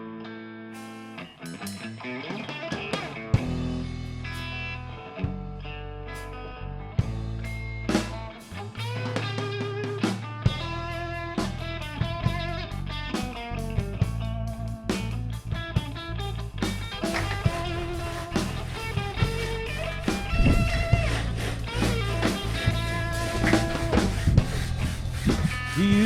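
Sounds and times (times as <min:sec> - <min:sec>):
rock music with electric guitar: 0:00.0 - 0:26.0.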